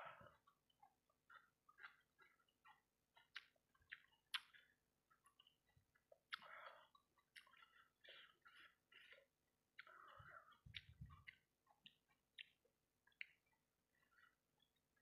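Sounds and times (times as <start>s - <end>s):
person chewing food: 0.0s - 15.0s
wet mouth clicks and smacks: 0.4s - 9.2s, 9.8s - 14.7s.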